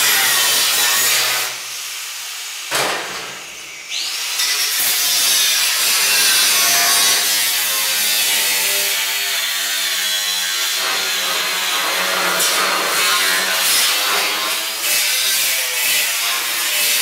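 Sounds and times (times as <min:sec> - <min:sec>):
angle grinder cutting sheet metal: 0:00.0 - 0:17.0.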